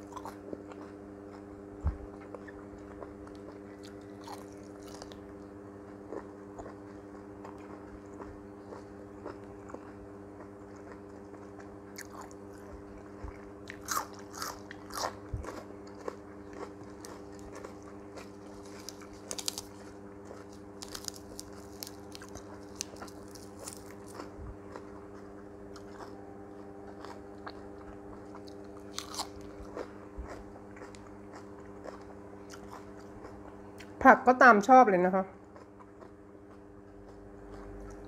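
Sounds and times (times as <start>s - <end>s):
crunching and chewing vegetables: 0.0s - 34.2s, 35.3s - 38.0s
steady low hum: 0.0s - 38.0s.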